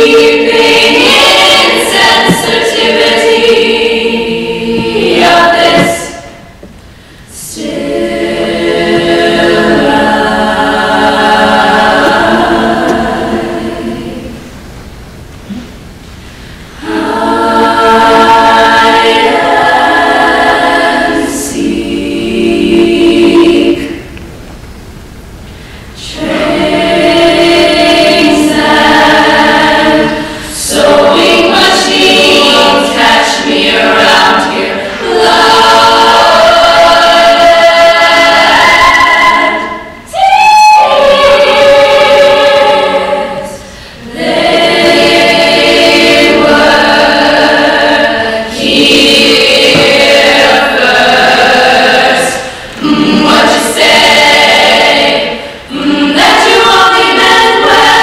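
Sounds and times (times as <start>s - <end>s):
women's group singing in harmony: 0.0s - 14.6s, 16.8s - 24.2s, 25.6s - 58.0s.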